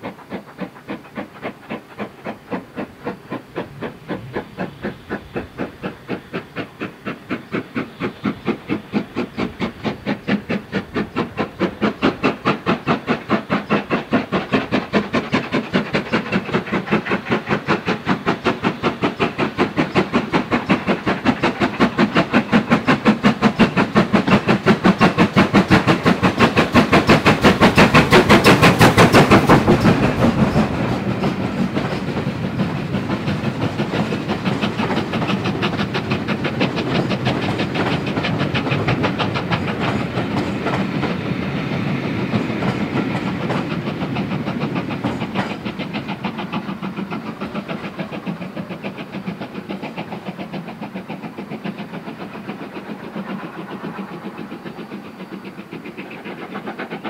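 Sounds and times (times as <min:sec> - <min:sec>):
steam locomotive exhaust beating: 0:00.0 - 0:57.0
train wheels clicking over rail joints: 0:00.0 - 0:57.0.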